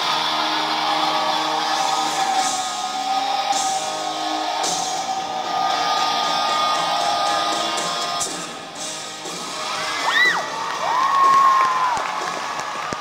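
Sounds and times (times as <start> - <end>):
rock music with guitar: 0.0 - 10.6.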